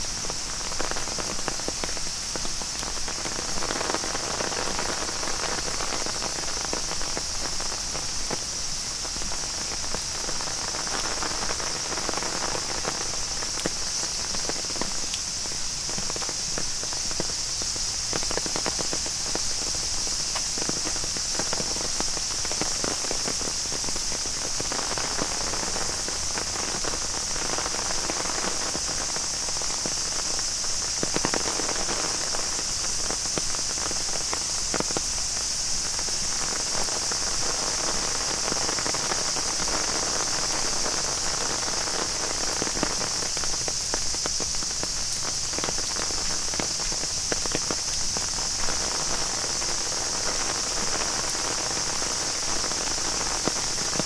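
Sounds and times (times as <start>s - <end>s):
rain hissing and dripping: 0.0s - 54.0s.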